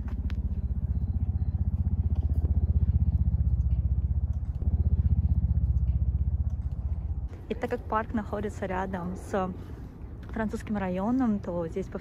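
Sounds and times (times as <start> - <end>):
engine rumble with fast pulse: 0.0 - 12.0.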